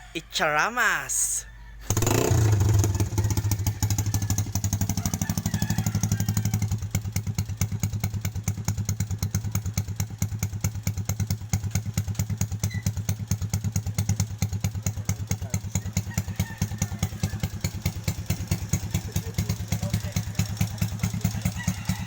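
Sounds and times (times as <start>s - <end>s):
motorcycle engine at low revs: 1.9s - 22.0s.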